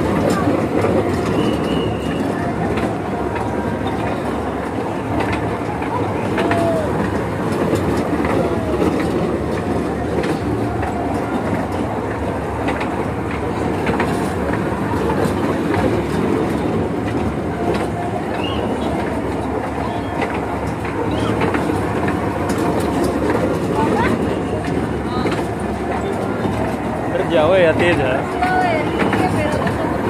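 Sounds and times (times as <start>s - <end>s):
small wheels rumbling on rails: 0.0s - 30.0s.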